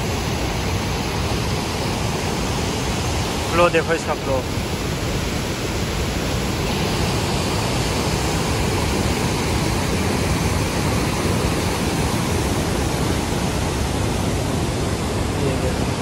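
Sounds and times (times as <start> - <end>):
water rushing over boulders: 0.0 - 16.0.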